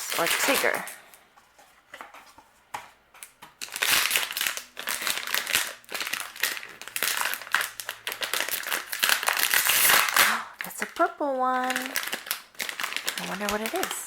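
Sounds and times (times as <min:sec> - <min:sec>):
packaging crinkling and tearing: 0:00.0 - 0:01.0, 0:03.2 - 0:14.0.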